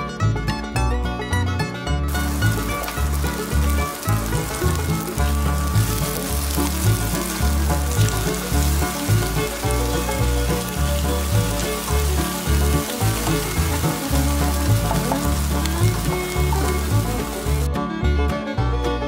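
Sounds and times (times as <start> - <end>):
background music with bass: 0.0 - 19.0
meat sizzling in hot oil: 2.1 - 17.7.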